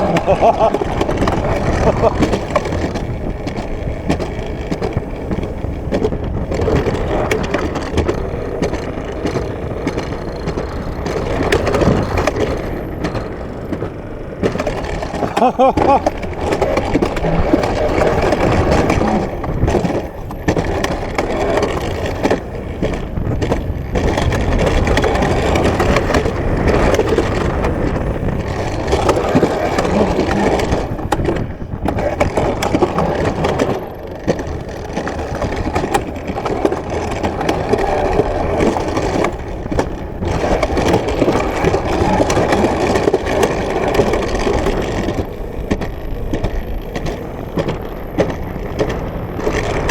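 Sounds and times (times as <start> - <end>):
sled wheels rattling on rail: 0.0 - 49.9.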